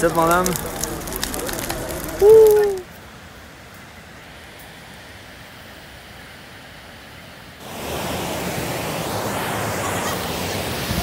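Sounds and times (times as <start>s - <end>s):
river rapids and waterfall: 0.0s - 11.0s.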